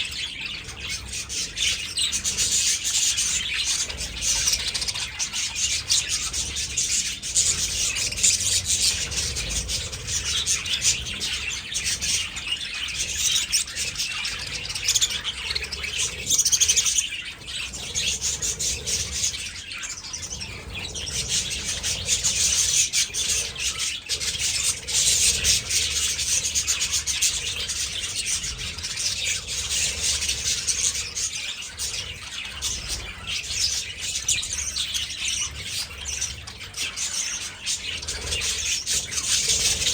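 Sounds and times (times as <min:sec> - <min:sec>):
budgies chattering: 0:00.0 - 0:39.9.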